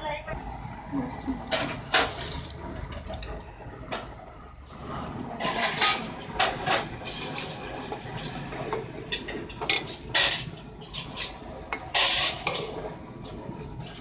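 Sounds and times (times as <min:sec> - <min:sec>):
ladle scraping metal pot: 0:01.4 - 0:14.0.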